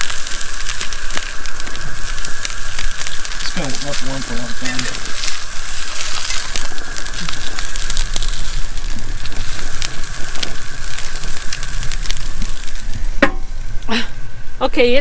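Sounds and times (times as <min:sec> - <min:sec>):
meat sizzling in a skillet: 0:00.0 - 0:15.0.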